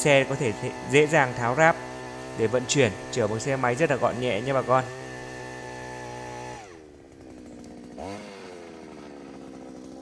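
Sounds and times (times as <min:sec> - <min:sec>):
two-stroke auger engine running: 0:00.0 - 0:10.0.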